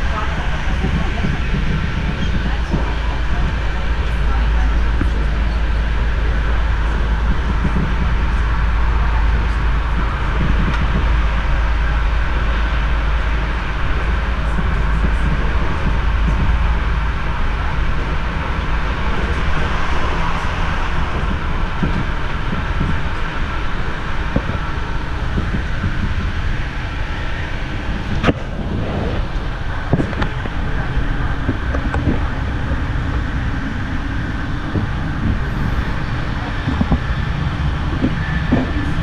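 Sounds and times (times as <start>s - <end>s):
train rumble and wheel-on-rail noise: 0.0s - 39.0s.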